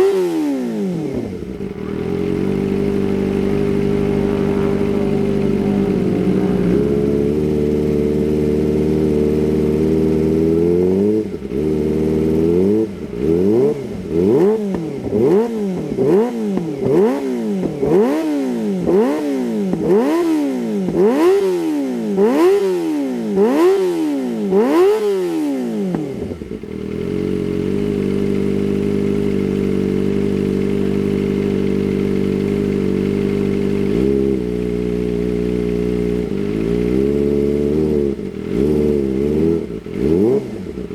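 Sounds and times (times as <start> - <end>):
motorcycle engine revving and idling: 0.0 - 40.9.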